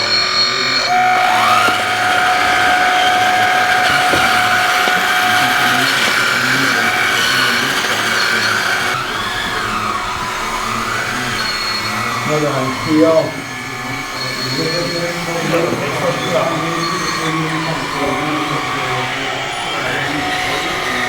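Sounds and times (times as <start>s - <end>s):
electric motor and gearbox whine: 0.0s - 21.0s.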